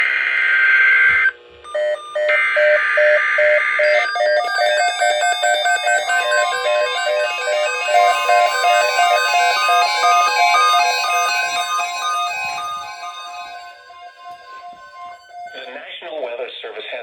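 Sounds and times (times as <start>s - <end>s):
melody of short repeated notes: 1.7s - 15.7s
buzzing digital data bursts: 1.8s - 15.8s.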